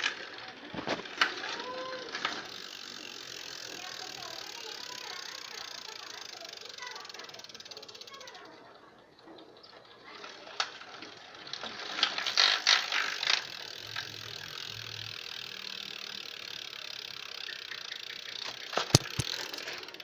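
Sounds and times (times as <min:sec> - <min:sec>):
bicycle freewheel hub clicking: 0:00.0 - 0:08.8, 0:09.4 - 0:20.0.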